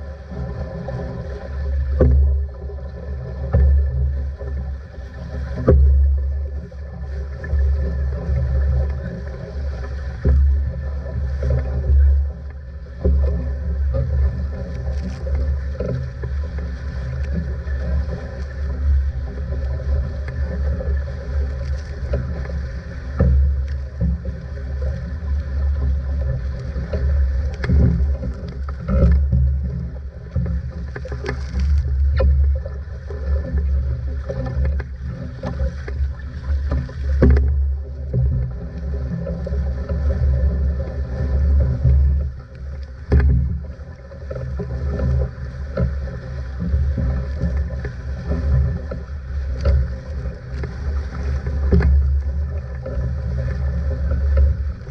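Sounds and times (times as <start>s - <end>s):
water rushing along a hull: 0.0s - 54.9s
waves slapping: 0.0s - 54.9s.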